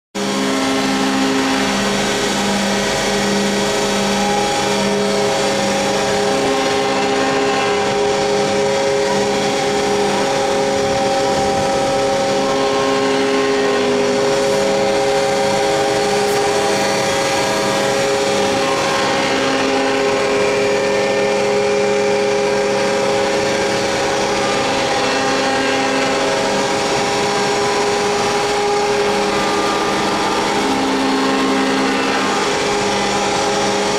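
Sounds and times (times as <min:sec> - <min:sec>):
grinding machine whine: 0:00.2 - 0:33.9
pulsing low hum: 0:00.2 - 0:33.9.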